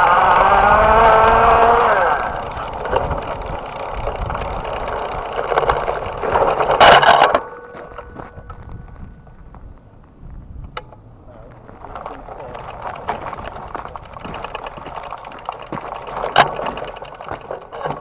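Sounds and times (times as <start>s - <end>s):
loud clatter: 0.0s - 8.6s, 11.8s - 18.0s
electric bike motor whining: 0.0s - 9.9s, 10.7s - 18.0s
drivetrain clicking rattle: 0.0s - 18.0s.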